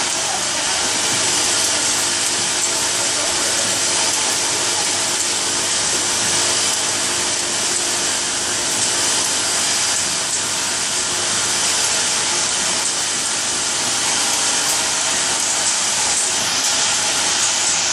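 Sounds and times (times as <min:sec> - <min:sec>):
machine hissing: 0:00.0 - 0:17.9.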